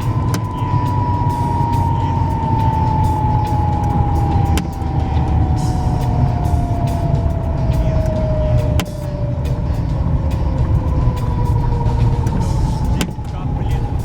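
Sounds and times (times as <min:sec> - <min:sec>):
engine and road rumble: 0:00.0 - 0:14.0
whine falling in pitch: 0:00.0 - 0:14.0.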